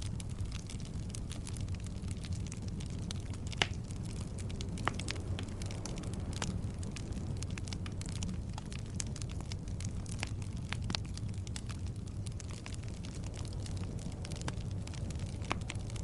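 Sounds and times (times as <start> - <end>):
fire rumbling: 0.0 - 16.0
wood fire crackles and pops: 0.0 - 16.0.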